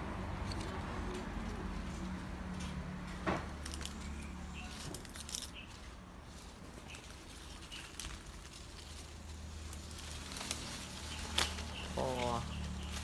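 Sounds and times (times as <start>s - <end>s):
tree branches rustling: 0.0s - 13.0s.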